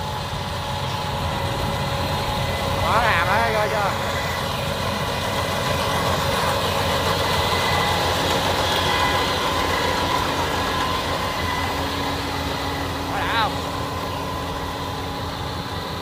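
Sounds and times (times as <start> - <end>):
combine harvester engine drone: 0.0 - 16.0
machinery whining tones: 0.0 - 16.0.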